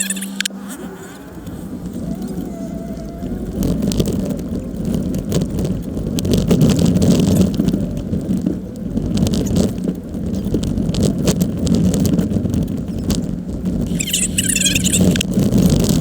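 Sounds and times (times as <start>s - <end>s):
vehicle engine droning: 0.0s - 16.0s
vehicle rattling and bumping: 0.0s - 16.0s.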